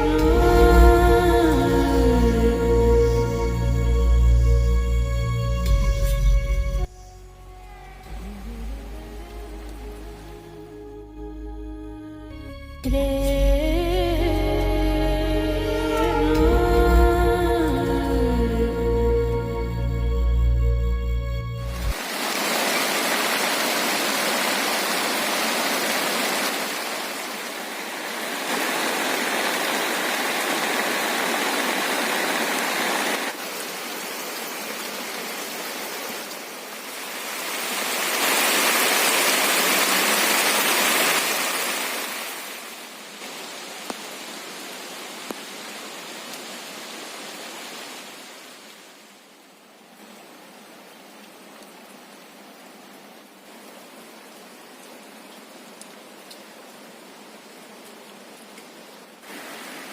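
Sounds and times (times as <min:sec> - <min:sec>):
heavy rain falling: 0:00.0 - 0:11.0, 0:21.5 - 0:59.9.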